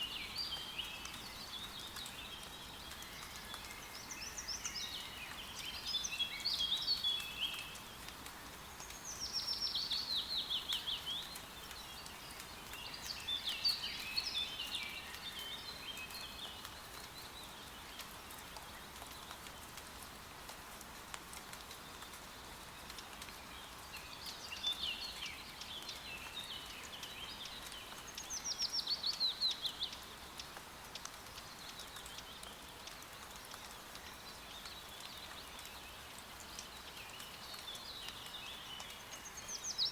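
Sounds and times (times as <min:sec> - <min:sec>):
songbirds singing: 0:00.0 - 0:19.8, 0:21.6 - 0:39.9
light rain pattering: 0:00.0 - 0:39.9.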